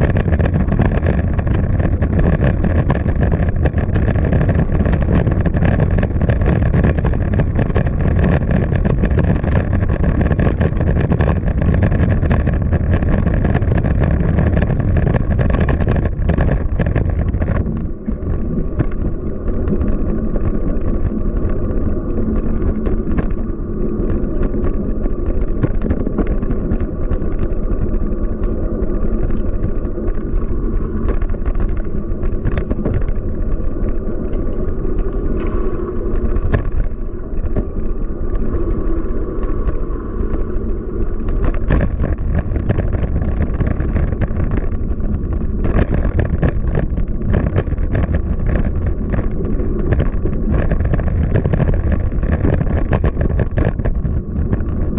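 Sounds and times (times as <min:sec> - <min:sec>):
bicycle clicks and rattles: 0:00.0 - 0:54.9
wind and road rumble: 0:00.0 - 0:54.9.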